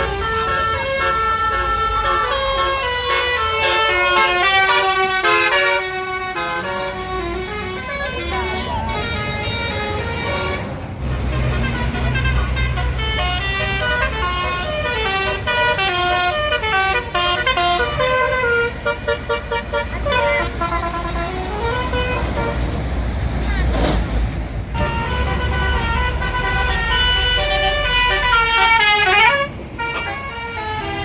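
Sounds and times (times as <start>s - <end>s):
bus horns playing a tune: 0.0s - 22.9s, 24.7s - 31.0s
rumble of passing buses: 0.0s - 31.0s.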